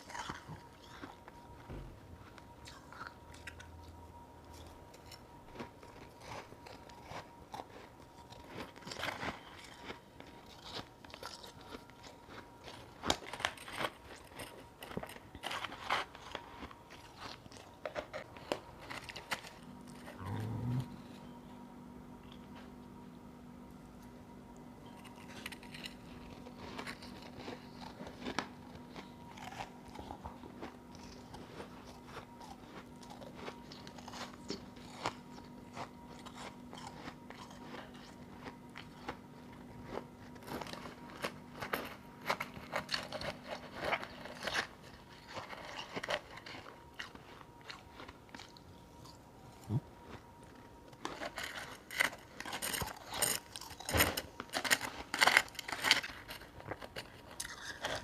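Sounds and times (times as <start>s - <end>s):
person chewing crunchy ice: 0.0s - 1.6s, 2.2s - 21.4s, 24.8s - 58.0s.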